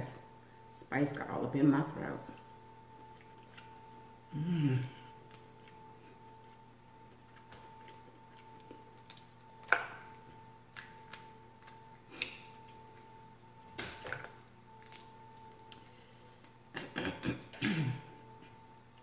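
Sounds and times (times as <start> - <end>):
faint oven hum: 0.0 - 19.0.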